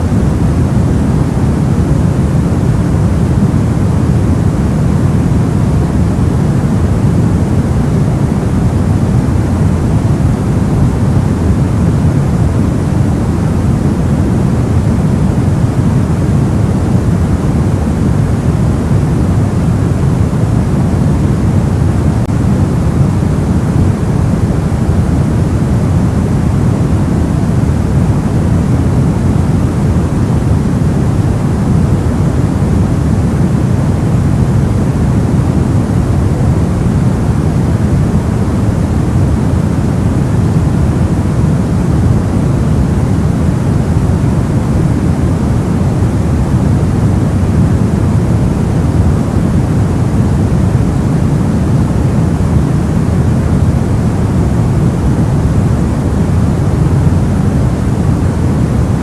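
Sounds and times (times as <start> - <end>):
soft white noise: 0.0 - 59.0.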